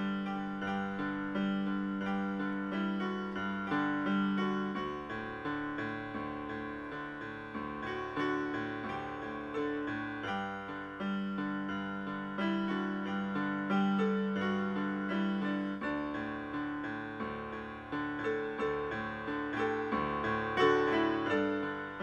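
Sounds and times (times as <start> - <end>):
solo piano music: 0.0 - 22.0.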